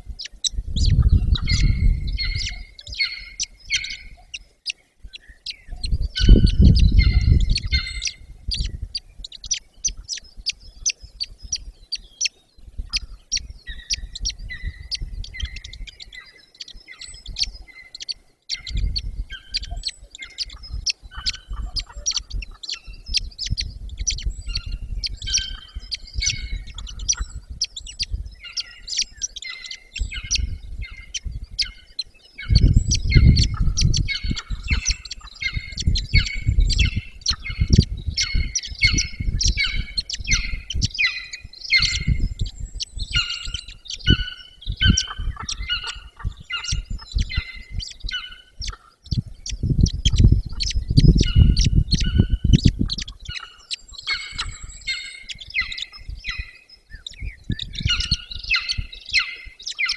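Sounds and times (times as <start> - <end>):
rapid high-pitched bird chirping: 0.0 - 59.9.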